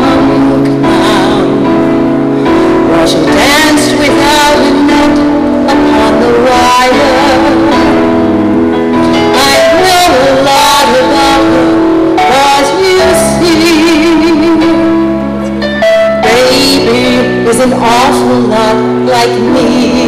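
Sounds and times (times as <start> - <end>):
woman singing into a microphone: 0.0 - 8.3, 9.0 - 15.3, 16.2 - 20.0
instrumental accompaniment: 0.0 - 20.0.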